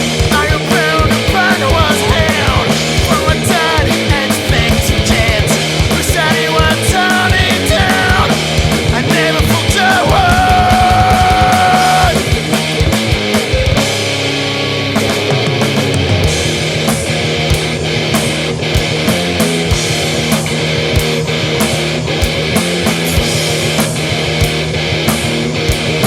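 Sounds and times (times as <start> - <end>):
distorted guitar: 0.0 - 26.0
heavy drums: 0.0 - 26.0
rock music: 0.0 - 26.0.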